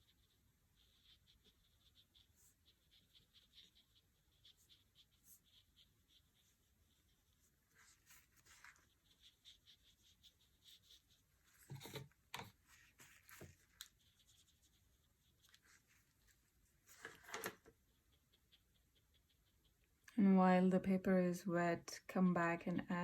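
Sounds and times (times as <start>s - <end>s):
brush rubbing on paper: 0.0s - 20.0s.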